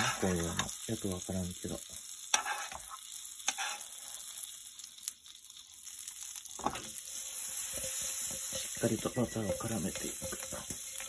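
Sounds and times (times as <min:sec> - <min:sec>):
butter sizzling in a pan: 0:00.0 - 0:11.0.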